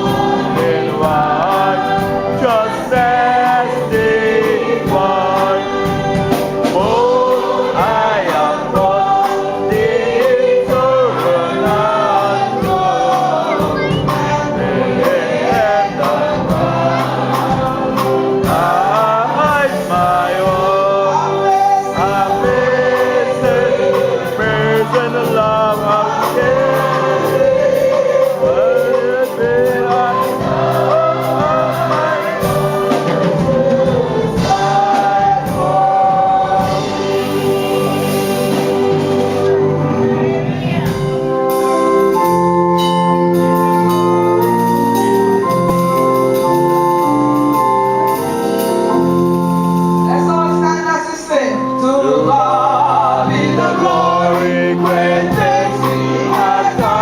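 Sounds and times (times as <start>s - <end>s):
choir singing gospel music: 0.0s - 57.0s
sustained instrumental accompaniment: 0.0s - 57.0s.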